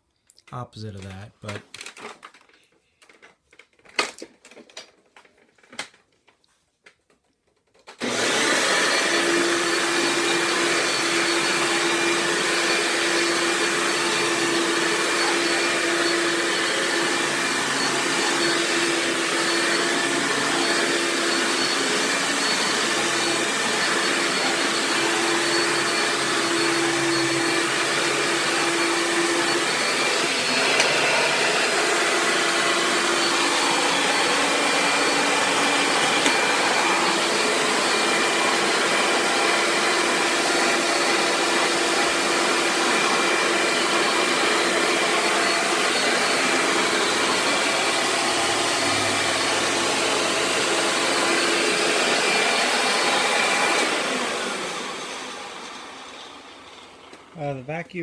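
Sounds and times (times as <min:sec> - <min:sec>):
vacuum cleaner motor running: 0:07.9 - 0:57.5.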